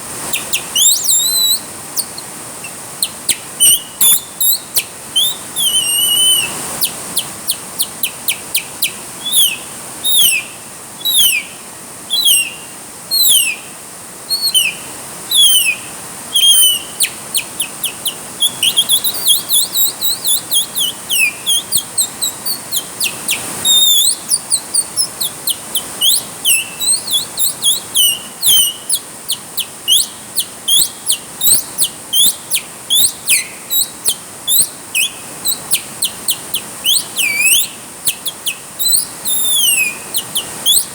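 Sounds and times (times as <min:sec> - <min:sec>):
rain hissing: 0:00.0 - 0:40.9
birds chirping: 0:00.3 - 0:13.7, 0:14.3 - 0:40.9.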